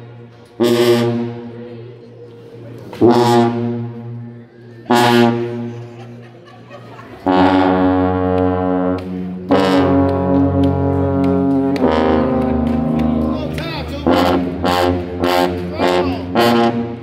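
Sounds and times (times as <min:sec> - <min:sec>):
brass band holding chords: 0:00.0 - 0:01.7, 0:03.0 - 0:06.2, 0:07.2 - 0:17.0.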